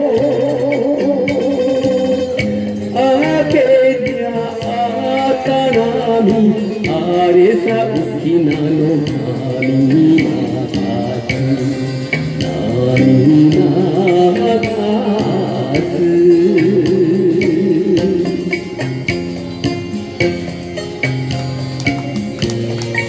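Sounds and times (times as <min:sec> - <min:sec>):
person singing into a microphone: 0:00.0 - 0:19.0
karaoke backing track: 0:00.0 - 0:23.0.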